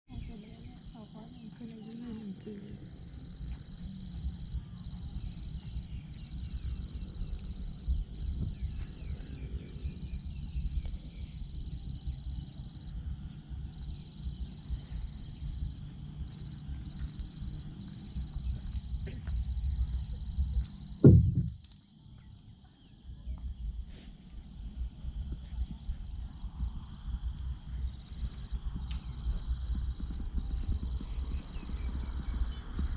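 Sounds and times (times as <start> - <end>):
insects trilling: 0.1 - 32.9
wind on microphone: 3.3 - 21.6, 23.1 - 32.9.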